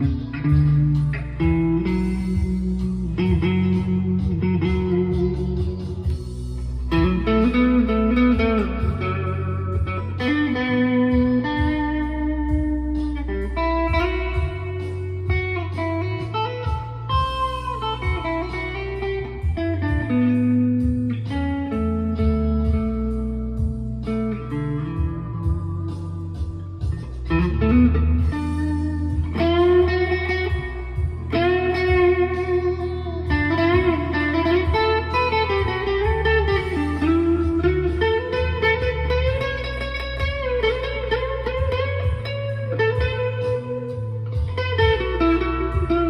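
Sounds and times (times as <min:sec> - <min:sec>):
electric guitar with delay: 0:00.0 - 0:46.0
steady low notes: 0:00.0 - 0:46.0.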